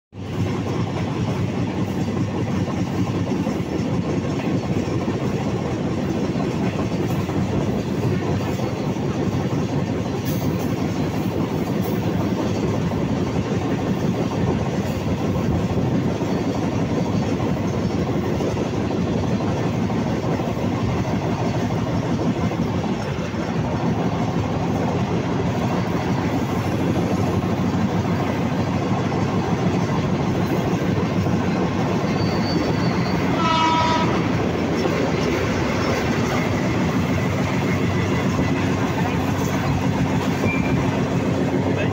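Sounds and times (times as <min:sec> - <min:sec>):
train wheels rumbling on rails: 0:00.1 - 0:41.9.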